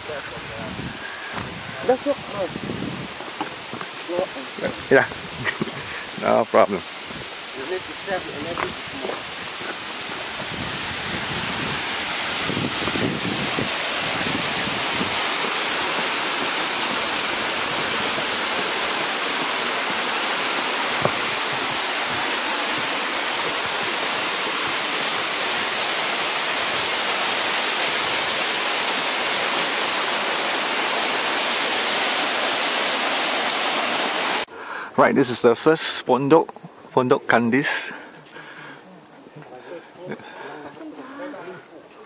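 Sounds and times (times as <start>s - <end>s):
waterfall rushing: 0.0s - 34.5s.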